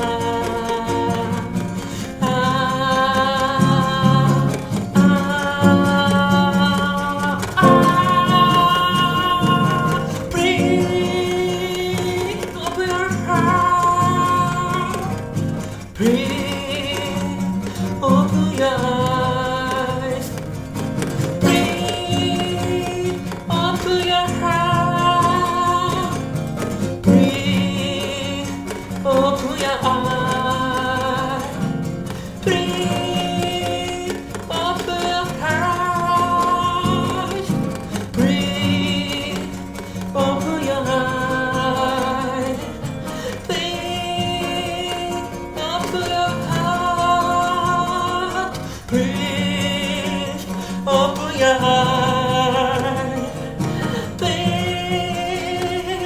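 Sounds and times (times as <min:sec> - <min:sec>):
nylon-string guitar: 0:00.0 - 0:56.0
person singing with vibrato: 0:00.0 - 0:56.0.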